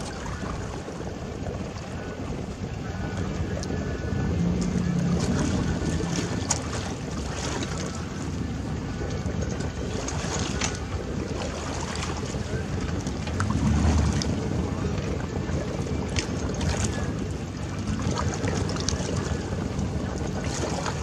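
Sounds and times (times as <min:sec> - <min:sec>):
paddle splashes: 0:00.0 - 0:21.0
water lapping: 0:00.0 - 0:21.0
wind rumbling on microphone: 0:00.0 - 0:21.0.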